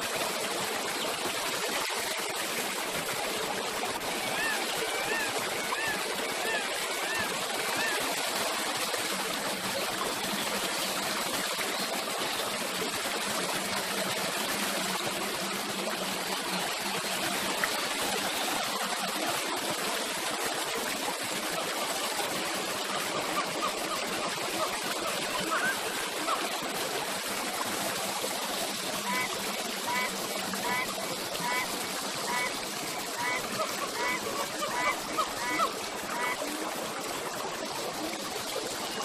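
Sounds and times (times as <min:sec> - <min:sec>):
fountain water gushing and splashing: 0:00.0 - 0:39.0.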